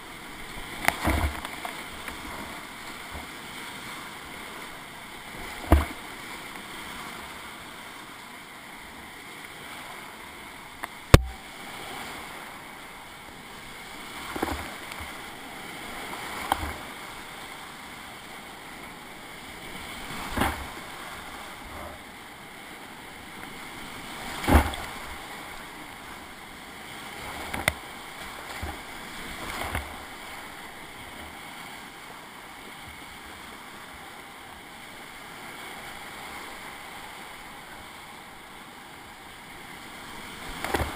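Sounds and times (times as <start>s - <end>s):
water splashing against boat: 0.0s - 8.2s, 10.7s - 34.3s, 39.4s - 40.9s.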